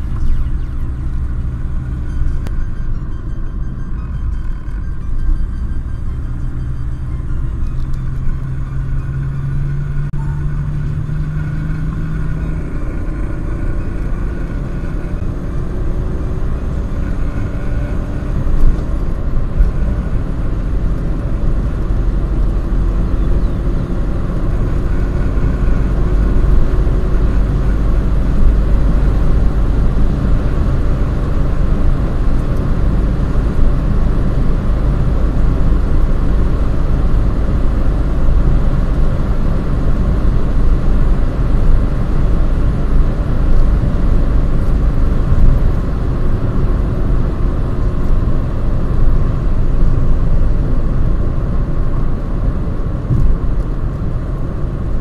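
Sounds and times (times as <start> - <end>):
diesel engine accelerating: 0.0 - 55.0
road and wind noise: 0.0 - 55.0.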